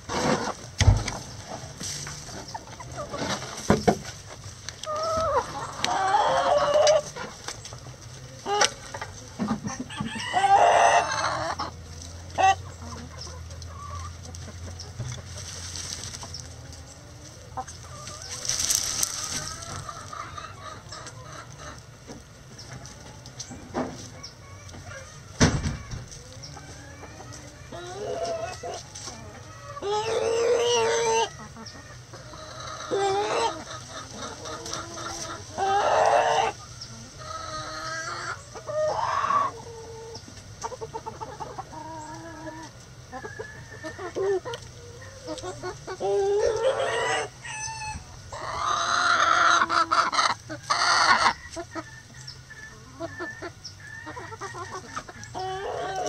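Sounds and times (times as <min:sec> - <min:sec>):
hens clucking: 0:00.0 - 0:56.0
roosters crowing: 0:04.8 - 0:56.0.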